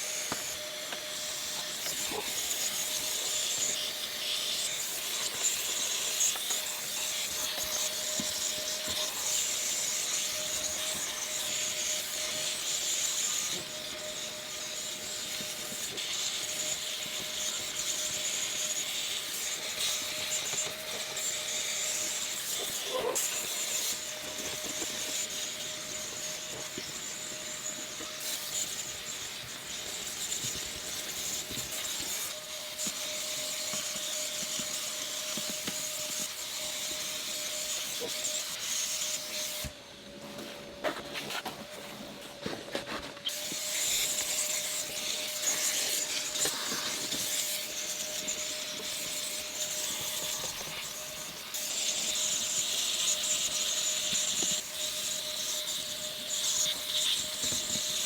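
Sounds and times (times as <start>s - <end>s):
cleaning machine hissing and whining: 0.0s - 58.0s.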